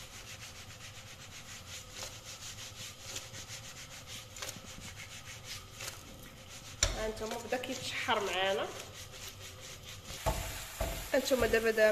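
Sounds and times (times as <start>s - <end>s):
shrimp sizzling in hot oil: 0.0s - 11.9s.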